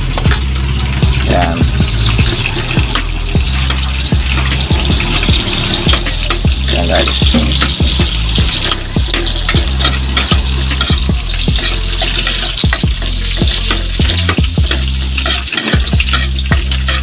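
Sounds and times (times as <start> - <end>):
garlic and onion sizzling in oil: 0.0 - 17.0
metal spoon scraping a pot: 0.3 - 17.0.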